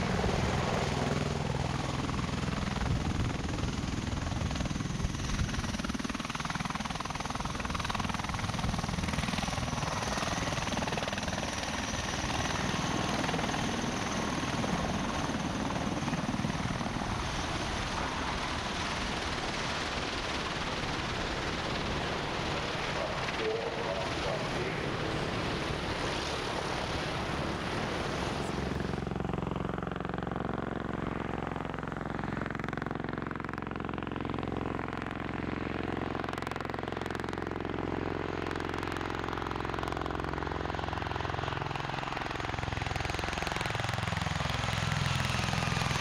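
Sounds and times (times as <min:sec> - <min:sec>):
aircraft rotor chop: 0:00.0 - 0:46.0.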